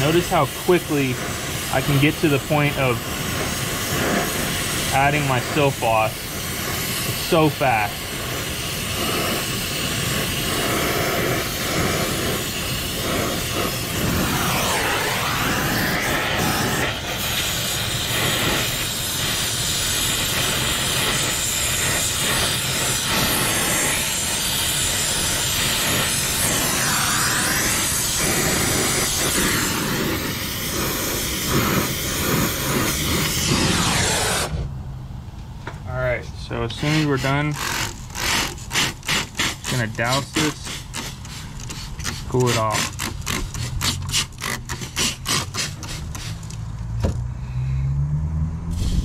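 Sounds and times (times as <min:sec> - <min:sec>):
torch flame hissing: 0:00.0 - 0:35.0, 0:36.5 - 0:46.9, 0:48.7 - 0:49.0.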